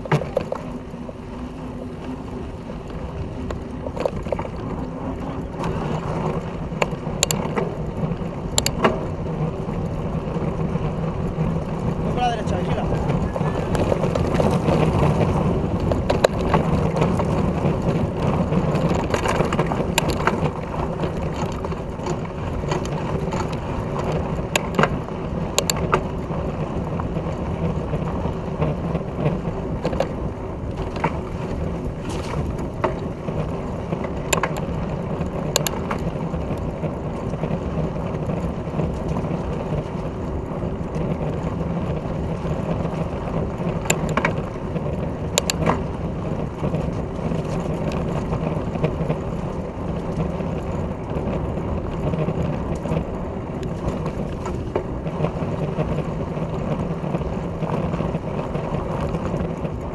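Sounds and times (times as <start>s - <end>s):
bike clicks and rattles: 0.0s - 59.9s
bike tyres rolling on dirt: 0.0s - 59.9s
wind rushing over camera: 0.0s - 59.9s.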